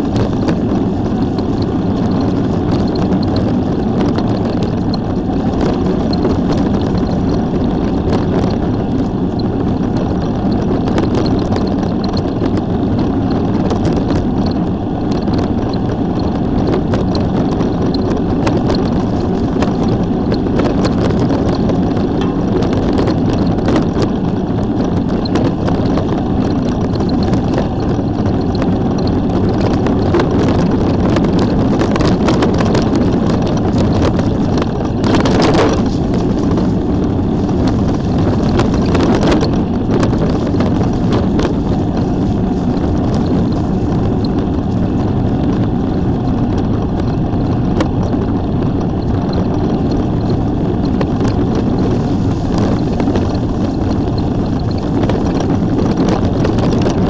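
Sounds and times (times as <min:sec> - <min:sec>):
wind gusts: 0:00.0 - 0:57.0
wind rushing on microphone: 0:00.0 - 0:57.0.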